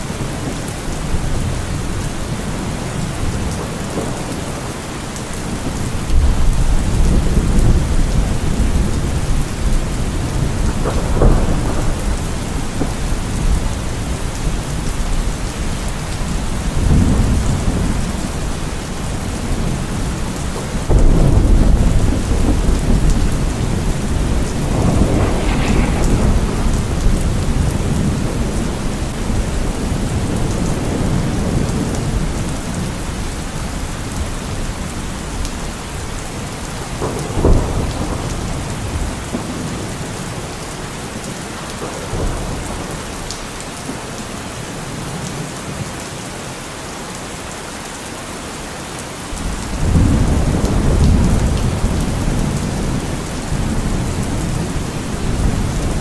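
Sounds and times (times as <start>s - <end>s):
steady rain: 0.0s - 56.0s
rolling thunder: 0.1s - 43.6s, 49.4s - 56.0s.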